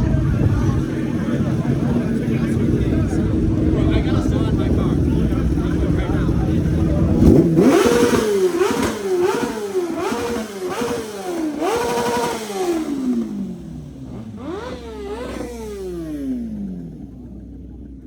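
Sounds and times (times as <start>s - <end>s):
car engine revving hard: 0.6s - 17.6s.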